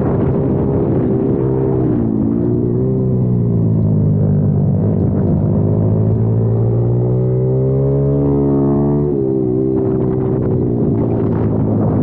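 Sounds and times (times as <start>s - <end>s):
motorbike engine accelerating: 0.0s - 12.0s.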